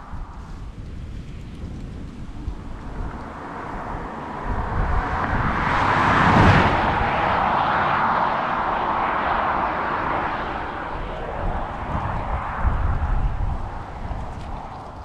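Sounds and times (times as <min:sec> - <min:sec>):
car driving past: 0:02.4 - 0:15.0.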